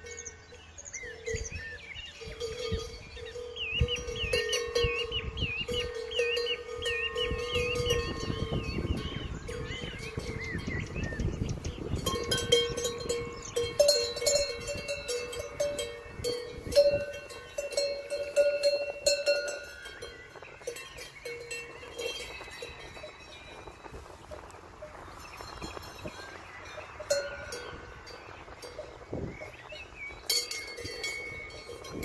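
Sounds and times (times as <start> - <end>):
bird chirps: 0.0 - 32.0
cowbells clanking: 0.0 - 32.0.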